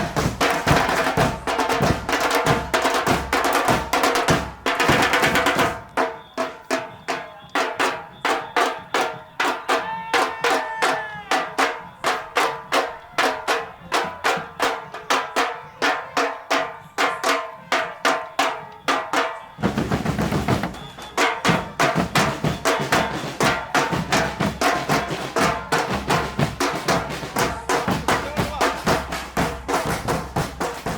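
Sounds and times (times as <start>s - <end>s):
percussion drum beat: 0.0s - 30.9s.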